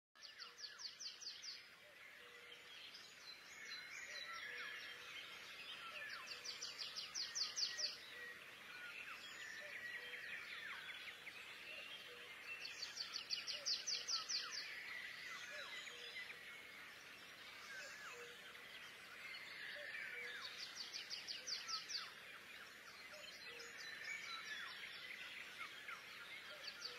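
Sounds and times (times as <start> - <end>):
bird chirps: 0.2 - 26.9.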